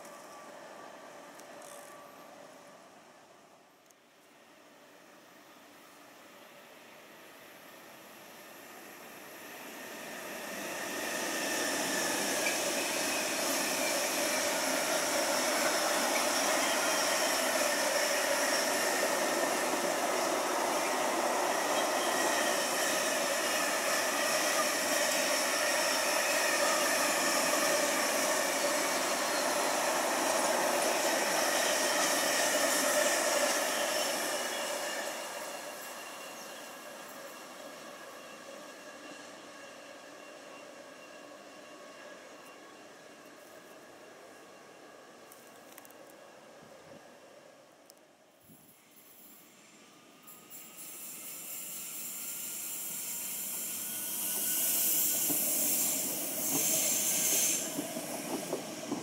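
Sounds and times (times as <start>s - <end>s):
freight train wheels on rails: 0.0s - 47.6s, 48.4s - 59.0s.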